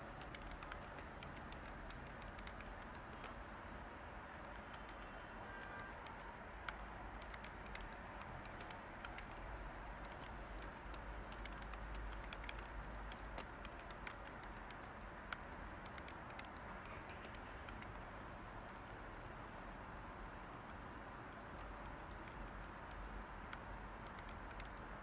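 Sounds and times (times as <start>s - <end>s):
keystrokes on computer keyboard: 0.0s - 3.4s, 4.3s - 18.1s, 20.6s - 25.0s
steady white-noise hiss: 0.0s - 25.0s.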